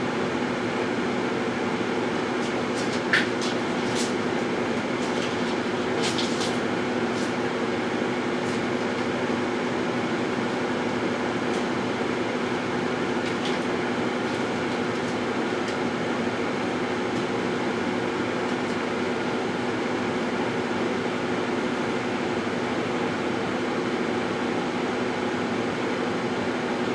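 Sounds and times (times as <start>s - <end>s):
microwave oven humming: 0.0s - 26.9s.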